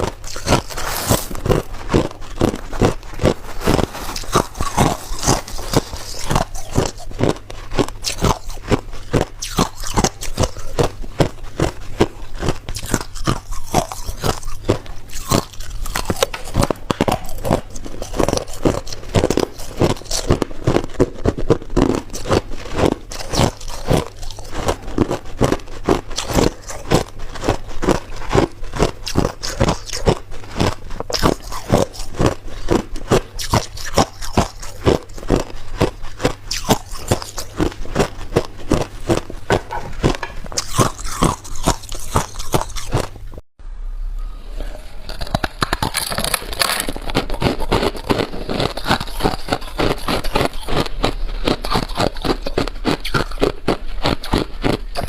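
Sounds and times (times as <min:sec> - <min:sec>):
ice crunching while chewed: 0:00.0 - 0:43.4, 0:44.6 - 0:55.0.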